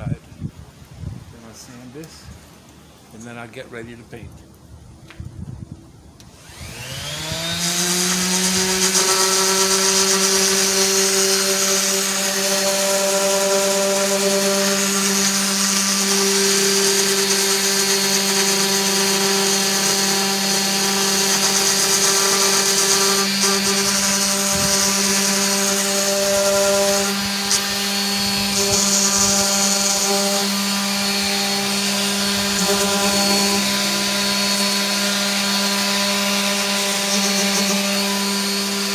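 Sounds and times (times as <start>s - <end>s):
orbital sander whining: 6.2s - 38.9s.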